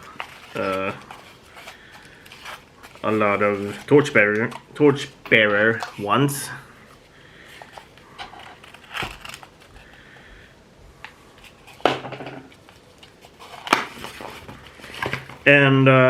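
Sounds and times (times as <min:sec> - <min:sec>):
packaging rustling: 0:00.0 - 0:10.2, 0:11.0 - 0:15.5.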